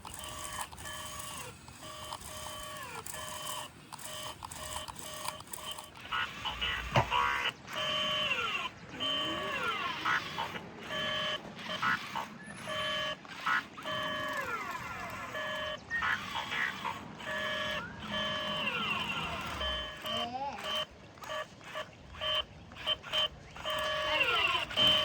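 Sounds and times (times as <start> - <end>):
robot toy beeps and pitch glides: 0.0 - 25.0.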